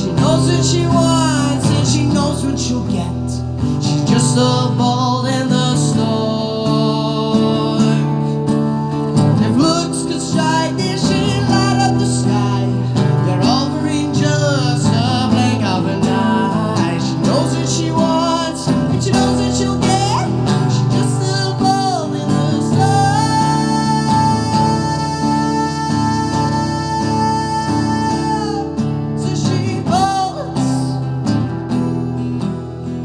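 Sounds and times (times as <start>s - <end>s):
strummed acoustic guitar: 0.0s - 33.0s.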